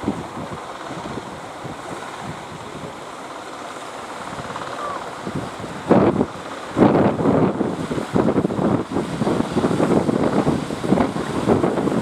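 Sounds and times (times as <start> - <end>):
wind buffeting microphone: 0.0 - 3.4, 4.1 - 12.0
surf rushing: 0.0 - 12.0.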